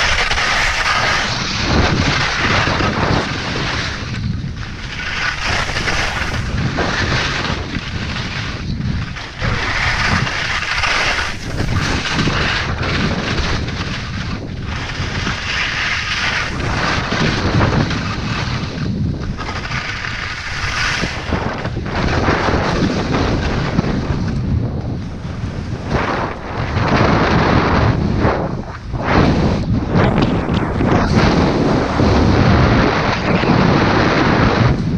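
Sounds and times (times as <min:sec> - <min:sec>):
skis scraping on hard snow: 0:00.0 - 0:34.9
wind buffeting microphone: 0:00.0 - 0:34.9.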